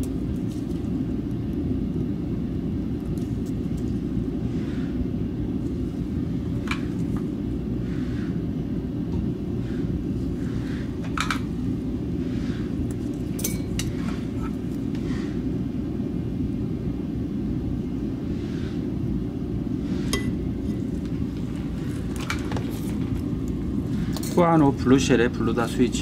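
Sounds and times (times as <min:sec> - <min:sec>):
extractor fan rumbling: 0:00.0 - 0:26.0.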